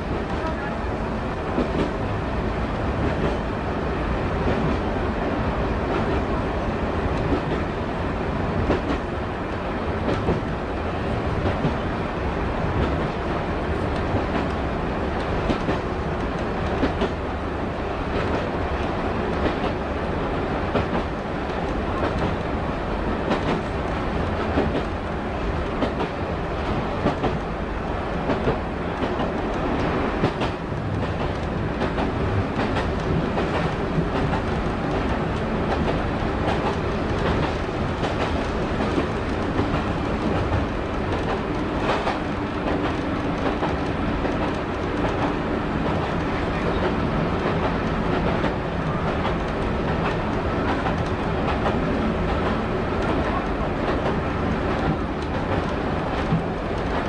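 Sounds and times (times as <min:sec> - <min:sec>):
train engine rumble: 0:00.0 - 0:57.0.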